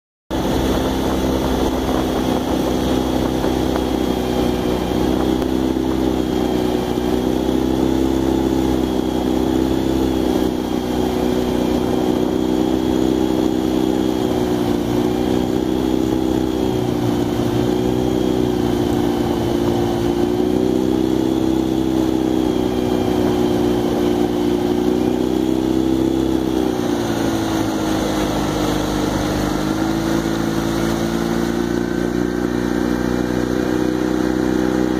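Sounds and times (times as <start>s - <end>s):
outboard motor running: 0.3s - 34.9s.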